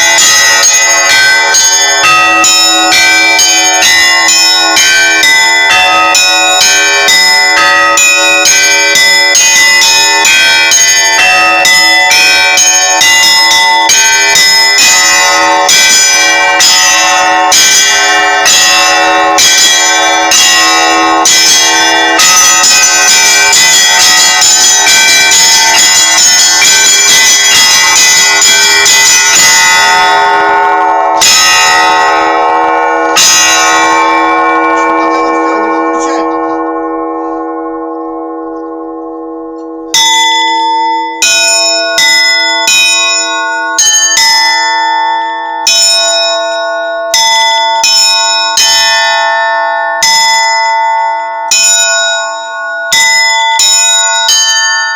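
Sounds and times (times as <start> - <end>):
church bells pealing: 0.0 - 54.9
low bell tone: 0.0 - 54.9.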